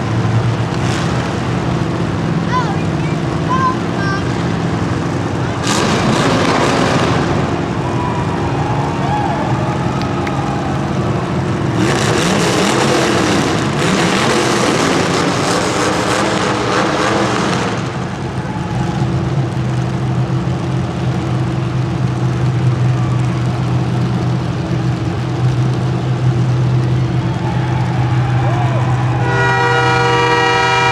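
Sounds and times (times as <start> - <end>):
loud rough noise: 0.0 - 30.9
racing engines running: 0.0 - 30.9.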